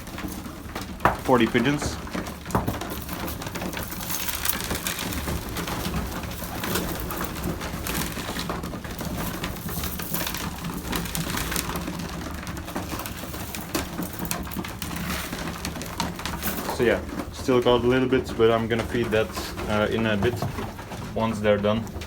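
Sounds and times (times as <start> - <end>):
beaks pecking at grain: 0.0 - 22.0.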